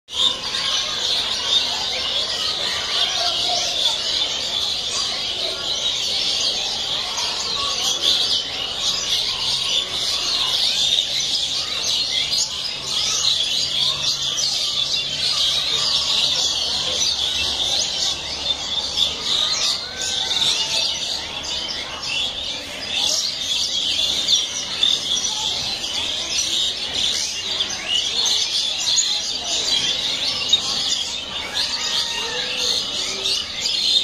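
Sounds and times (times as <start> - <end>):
chorus of birds chirping: 0.0 - 34.0.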